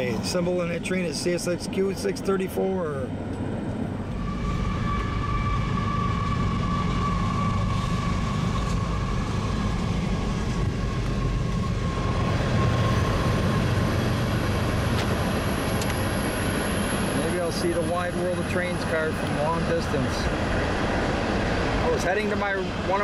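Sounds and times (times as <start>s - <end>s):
freight train rumbling by: 0.0s - 23.0s.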